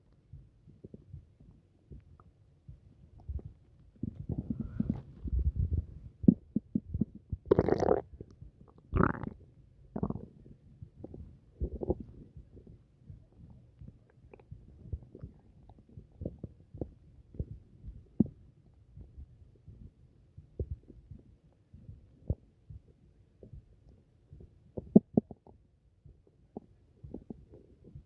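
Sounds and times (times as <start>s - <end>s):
stomach rumbling and gurgling: 0.2s - 28.0s.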